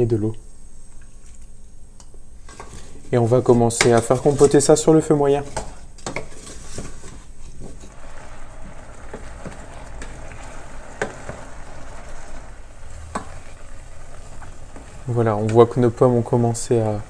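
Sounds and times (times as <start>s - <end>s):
faint sizzle: 0.0s - 17.0s
spoon stirring apples in saucepan: 2.4s - 17.0s.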